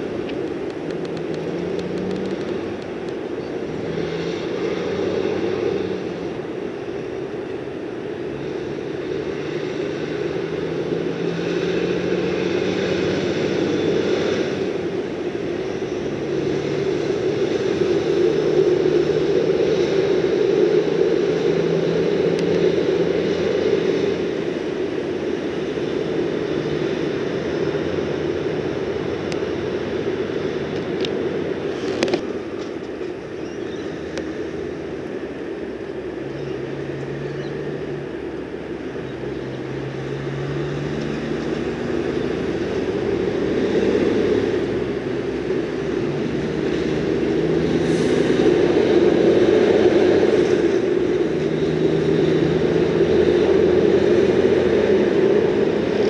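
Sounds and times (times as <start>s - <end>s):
road traffic rumble: 0.0s - 56.0s
truck engine drone: 0.0s - 56.0s.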